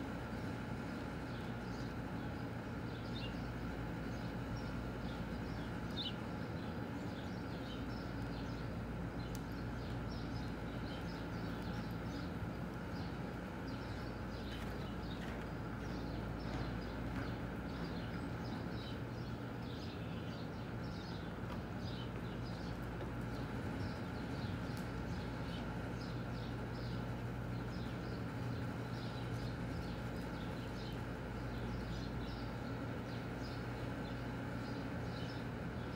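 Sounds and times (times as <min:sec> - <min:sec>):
small birds chirping: 0:00.0 - 0:35.9
steady low hum: 0:00.0 - 0:35.9.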